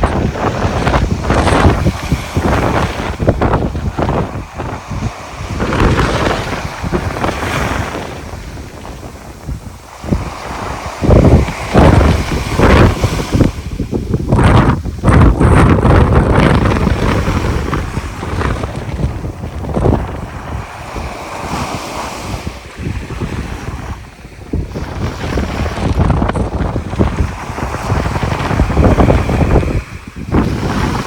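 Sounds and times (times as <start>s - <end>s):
sea waves breaking on shore: 0.0s - 31.0s
wind buffeting microphone: 0.0s - 31.0s.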